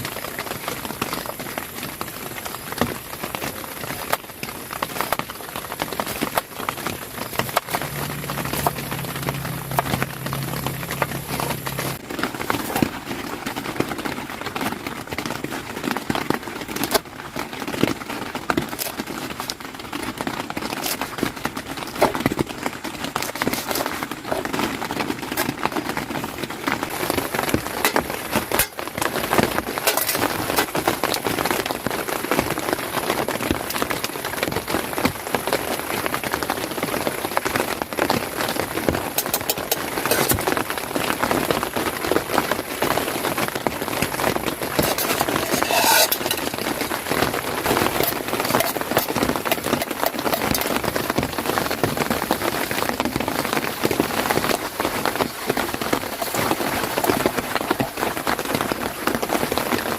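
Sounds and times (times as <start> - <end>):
rain falling on a tent: 0.0 - 59.9.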